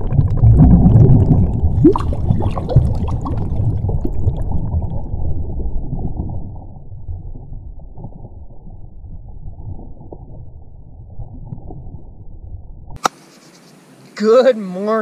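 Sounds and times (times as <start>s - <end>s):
low underwater rumble: 0.0s - 13.0s
underwater bubbles gurgling: 0.0s - 13.0s.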